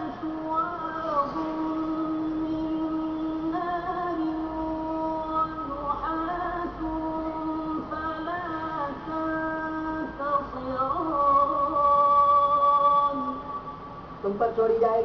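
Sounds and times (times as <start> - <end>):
high voice chanting recitation: 0.0 - 15.0.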